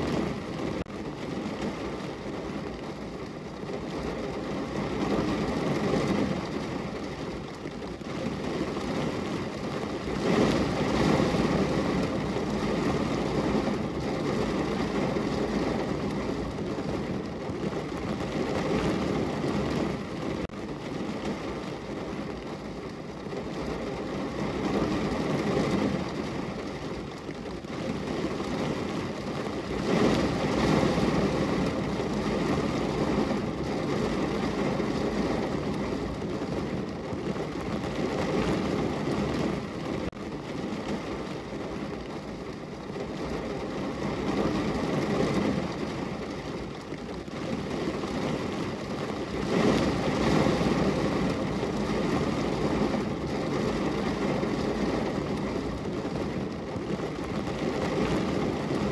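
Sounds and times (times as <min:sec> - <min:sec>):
rain against a window: 0:00.0 - 0:58.9.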